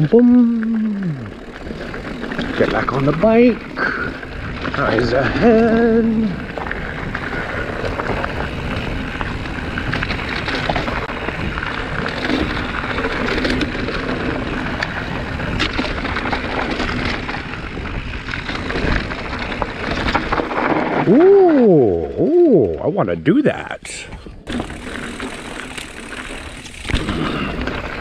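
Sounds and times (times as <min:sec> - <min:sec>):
tyres rolling over gravel: 0:00.0 - 0:22.2, 0:24.4 - 0:28.0
bike rattling: 0:00.0 - 0:28.0.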